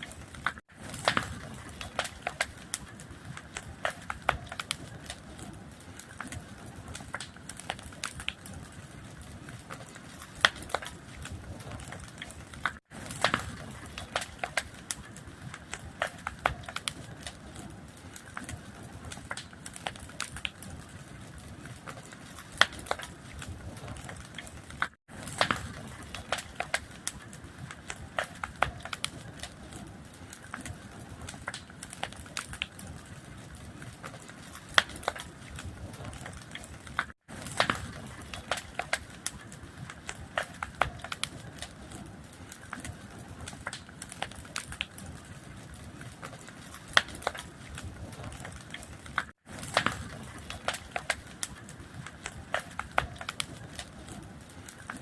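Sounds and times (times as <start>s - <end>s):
low rush of burning: 0.0s - 55.0s
wood fire crackling and popping: 0.0s - 55.0s.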